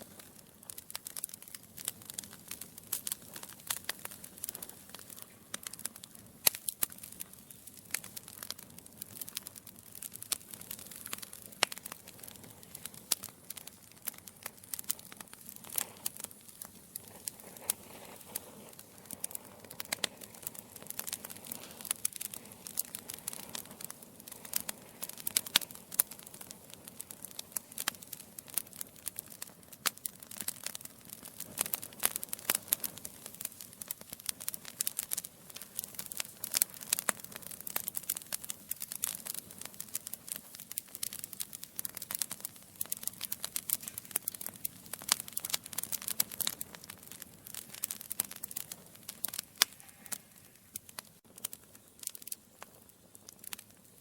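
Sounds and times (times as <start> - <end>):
soft hiss of flame: 0.0 - 54.0
wood fire crackling: 0.0 - 54.0.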